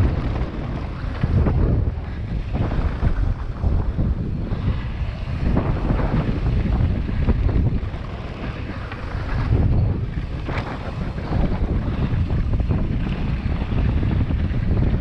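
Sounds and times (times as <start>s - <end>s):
bike clattering over bumps: 0.0s - 15.0s
tyres rumbling on dirt trail: 0.0s - 15.0s
wind rushing over microphone: 0.0s - 15.0s.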